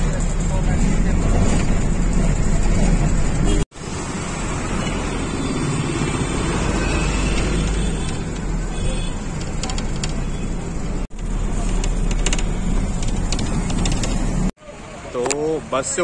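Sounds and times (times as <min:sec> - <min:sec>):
vehicle rumble and road noise: 0:00.0 - 0:16.0.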